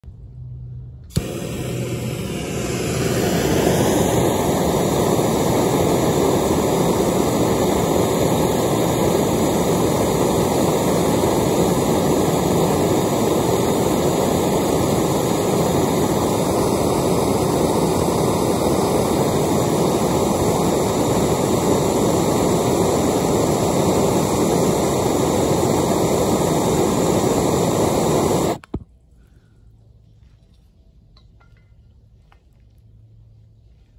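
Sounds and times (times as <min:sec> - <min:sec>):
blowtorch flame rushing: 0:01.1 - 0:28.7.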